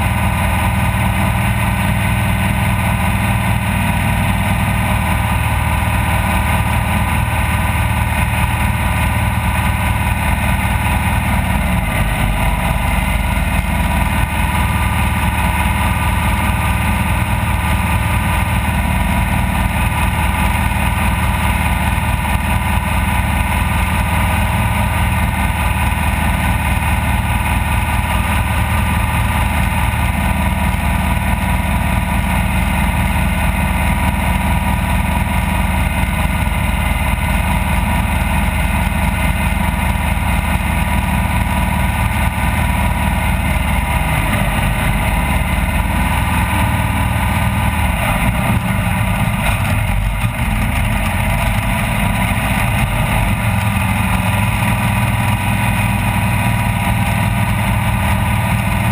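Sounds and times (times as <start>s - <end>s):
race vehicle engine running: 0.0s - 58.9s.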